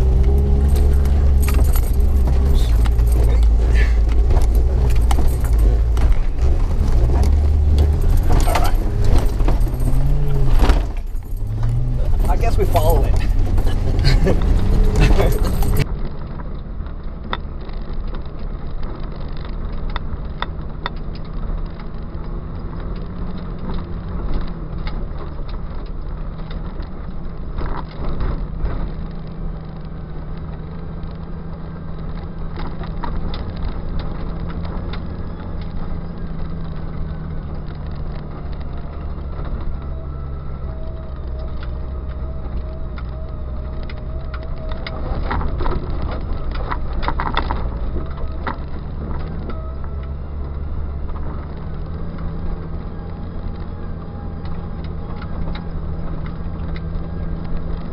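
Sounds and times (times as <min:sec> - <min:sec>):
engine running at low revs: 0:00.0 - 0:57.9.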